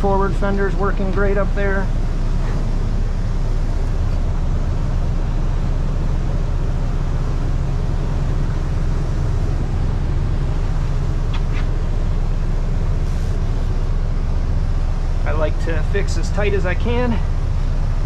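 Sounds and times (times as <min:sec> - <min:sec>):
boat engines idling: 0:00.0 - 0:18.0
water churning along hull: 0:00.0 - 0:18.0.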